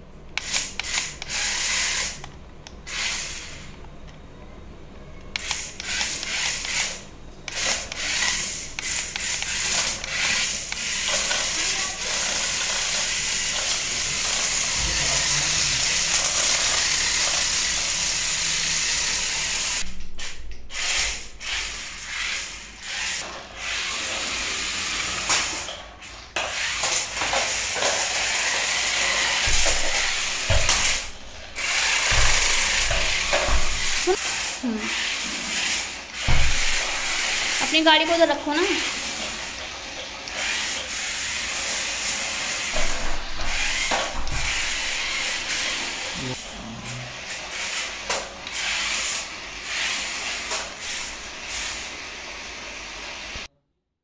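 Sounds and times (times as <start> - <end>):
wheels scrubbing on tiles: 0.4 - 2.2, 2.8 - 3.7, 5.4 - 19.9, 20.7 - 53.5
toy car motors whirring: 0.4 - 3.7, 5.3 - 19.9, 20.7 - 25.6, 26.4 - 51.9.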